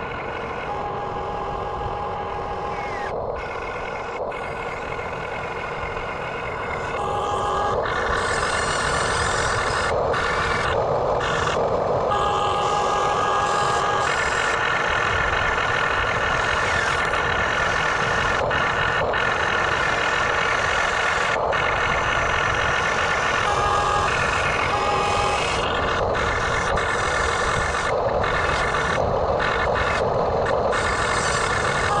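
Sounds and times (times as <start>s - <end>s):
toy excavator motor whine and rattle: 0.0s - 32.0s.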